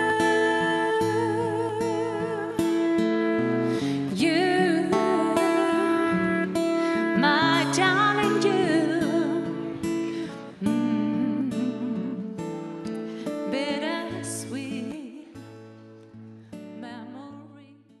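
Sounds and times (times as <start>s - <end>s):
acoustic guitar chords: 0.0s - 18.0s.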